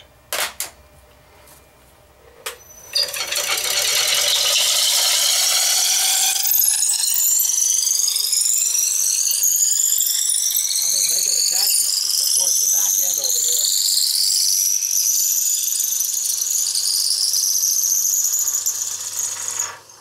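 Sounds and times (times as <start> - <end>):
dowel maker cutting spinning wood: 2.6 - 20.0.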